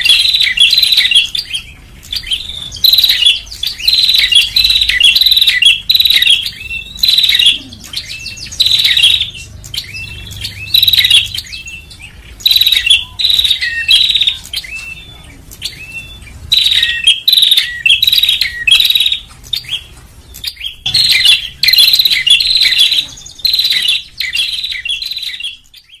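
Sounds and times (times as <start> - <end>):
high bird chirping bursts: 0.0 - 26.0.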